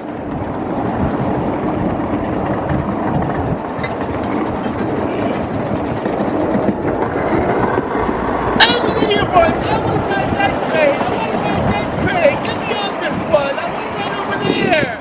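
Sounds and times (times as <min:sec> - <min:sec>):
miniature train rumbling on track: 0:00.0 - 0:15.0.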